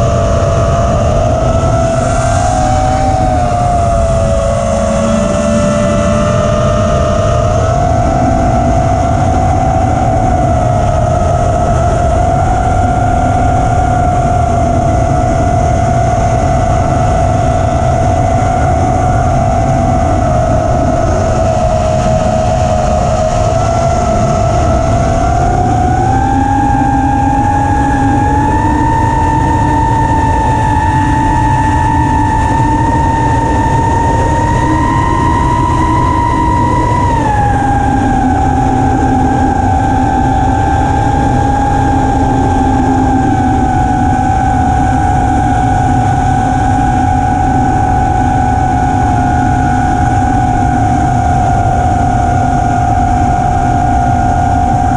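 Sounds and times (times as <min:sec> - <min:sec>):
quadcopter motors whining: 0:00.0 - 0:54.9
wind rumble on microphone: 0:00.0 - 0:54.9.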